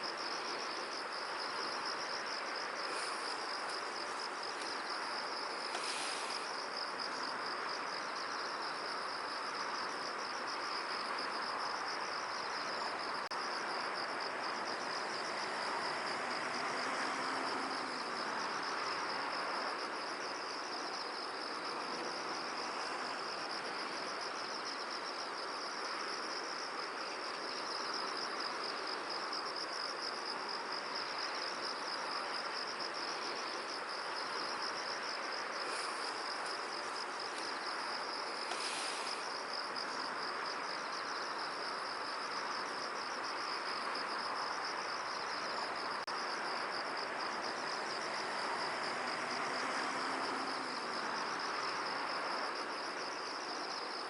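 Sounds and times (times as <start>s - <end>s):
insects trilling: 0.0s - 54.0s
wind hiss: 0.0s - 54.0s.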